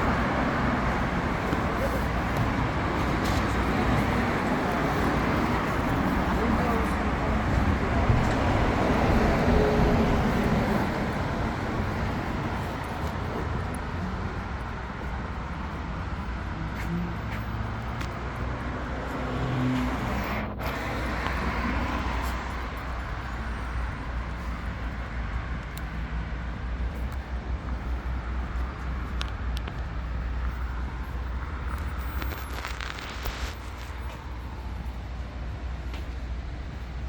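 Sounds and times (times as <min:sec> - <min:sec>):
passing cars: 0:00.0 - 0:37.0.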